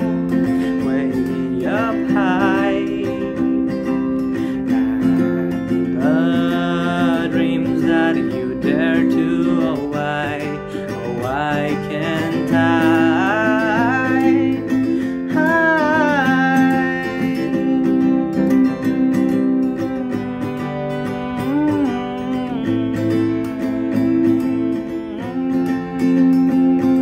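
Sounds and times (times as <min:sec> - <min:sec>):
acoustic guitar strumming: 0:00.0 - 0:27.0
man singing: 0:00.0 - 0:27.0.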